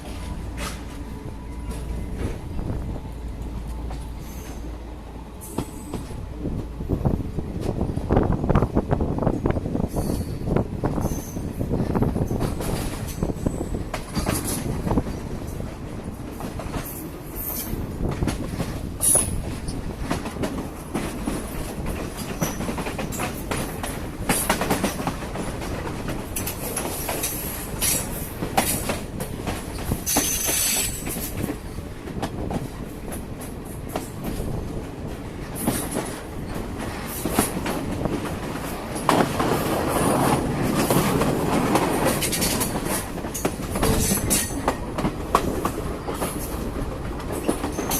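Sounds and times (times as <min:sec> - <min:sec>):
train wheels clattering: 0:00.0 - 0:08.0, 0:09.3 - 0:47.9
train rumble: 0:00.0 - 0:47.9.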